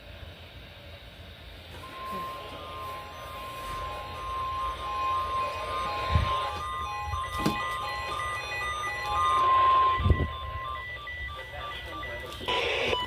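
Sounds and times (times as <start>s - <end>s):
steady electronic alert tone: 1.7s - 13.0s
short electronic beeps: 1.8s - 13.0s.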